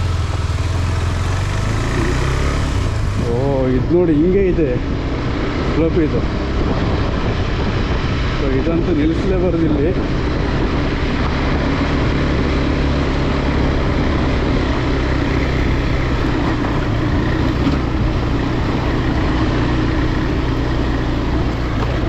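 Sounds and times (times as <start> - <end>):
motorcycle engine under load: 0.0 - 22.0
steady rush of noise: 1.4 - 22.0.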